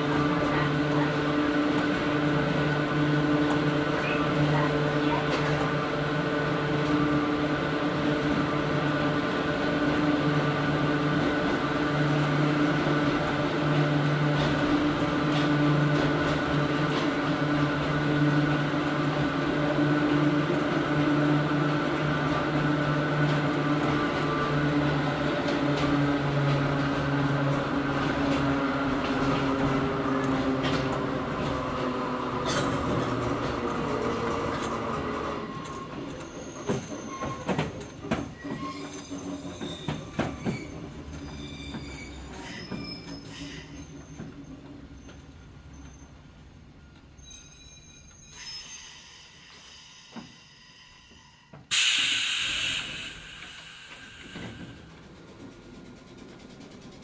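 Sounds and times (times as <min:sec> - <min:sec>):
train wheels rumbling: 0:00.0 - 0:46.4, 0:48.8 - 0:57.0.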